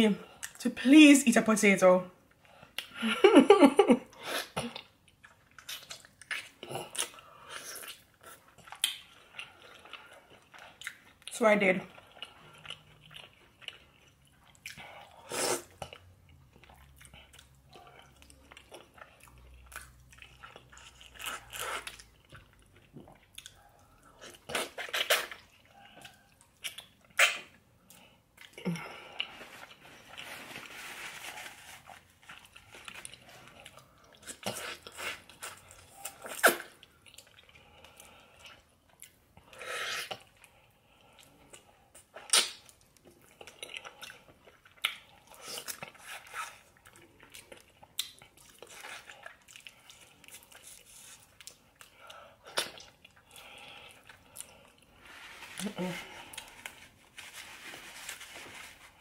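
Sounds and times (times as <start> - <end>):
person chewing food: 4.1 - 11.3, 11.9 - 59.0.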